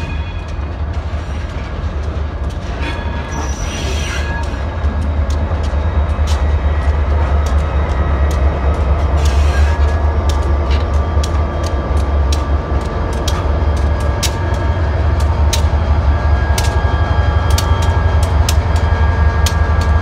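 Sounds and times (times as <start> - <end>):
diesel locomotive engine rumble: 0.0 - 20.0
wheels clicking on rails: 0.0 - 20.0.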